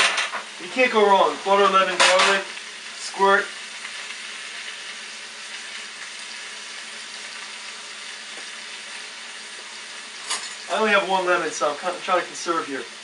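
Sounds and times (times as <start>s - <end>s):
garlic sizzling in frying pan: 0.0s - 13.0s.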